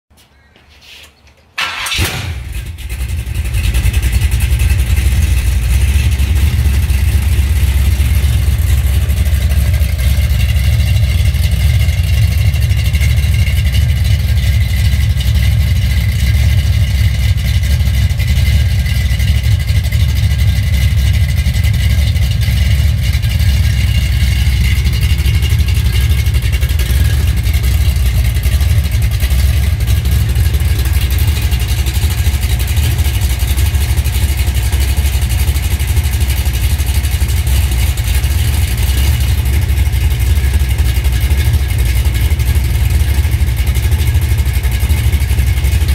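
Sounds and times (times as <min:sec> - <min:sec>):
engine idling: 0:01.6 - 0:45.9.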